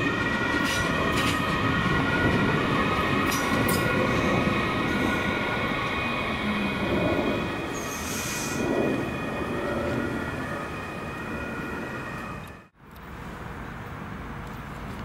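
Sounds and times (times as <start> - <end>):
wheel-on-rail noise: 0.0 - 15.0.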